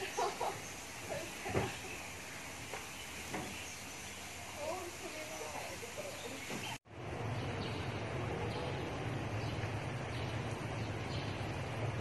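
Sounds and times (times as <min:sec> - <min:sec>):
outdoor background hum: 0:00.0 - 0:12.0.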